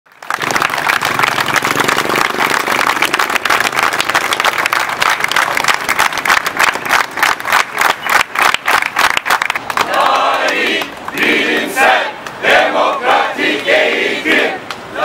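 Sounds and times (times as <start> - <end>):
crowd clapping: 0.1 - 12.4.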